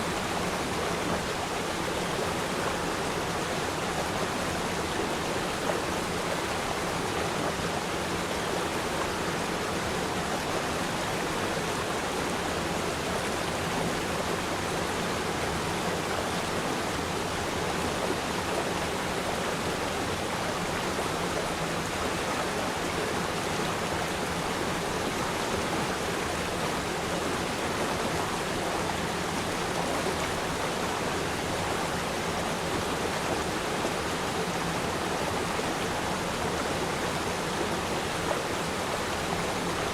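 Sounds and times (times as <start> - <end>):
river stream rushing: 0.0 - 39.9.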